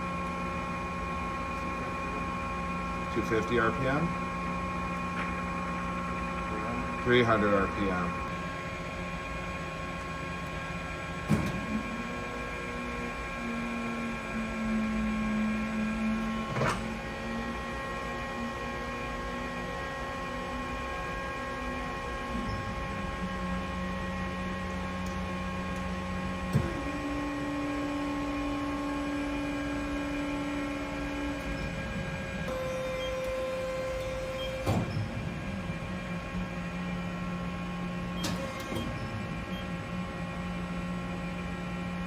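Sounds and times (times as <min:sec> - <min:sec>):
lathe humming with whine: 0:00.0 - 0:42.0.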